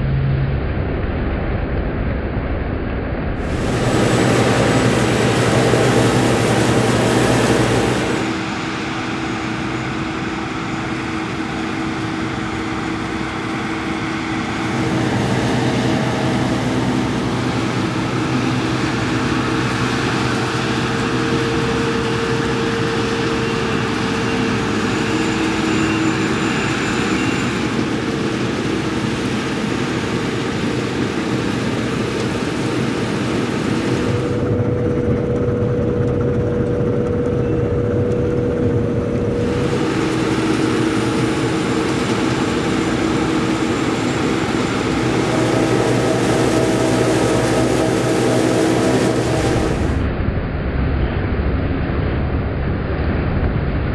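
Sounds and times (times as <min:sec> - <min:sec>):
combine harvester engine drone: 0:00.0 - 0:53.9
threshing machinery whirring: 0:03.4 - 0:50.1.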